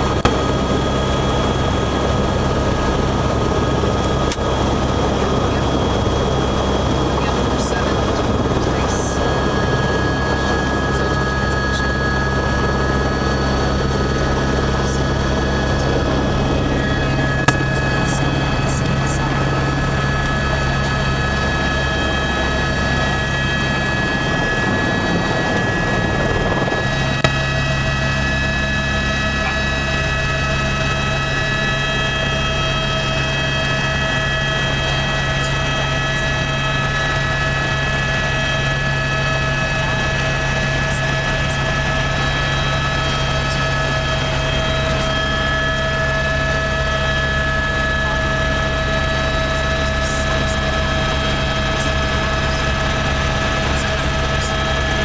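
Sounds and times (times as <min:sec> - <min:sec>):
helicopter rotor rumble: 0:00.0 - 0:55.0
helicopter turbine whine: 0:00.0 - 0:55.0.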